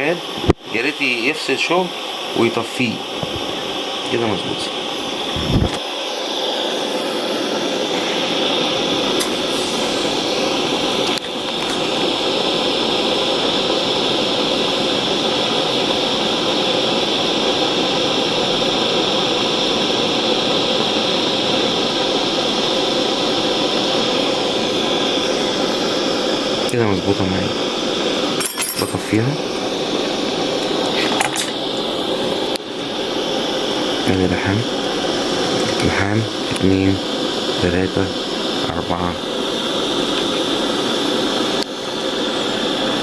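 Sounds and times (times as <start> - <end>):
soldering torch flame hissing: 0.0 - 43.0.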